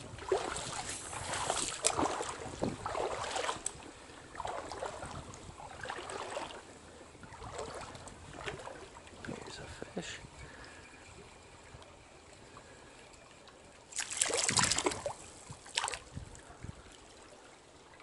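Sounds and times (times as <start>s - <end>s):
stream water rushing: 0.0s - 12.8s, 13.8s - 16.1s.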